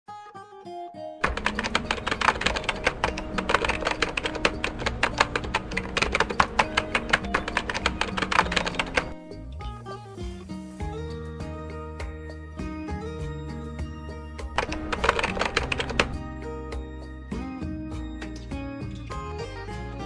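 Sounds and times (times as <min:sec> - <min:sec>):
background music with percussive beats: 0:01.2 - 0:19.3.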